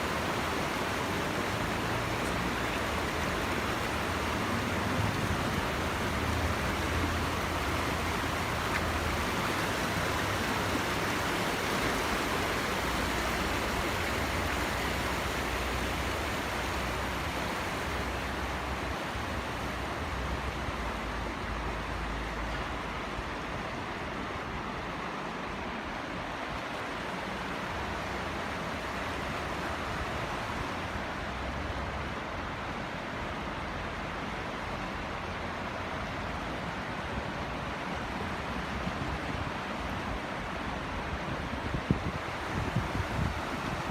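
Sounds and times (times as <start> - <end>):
water rushing over waterfall: 0.0 - 43.9.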